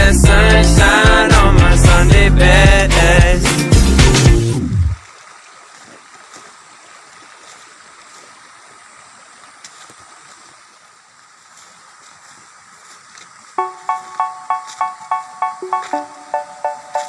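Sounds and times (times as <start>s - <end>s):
faint flowing water: 3.1s - 17.0s.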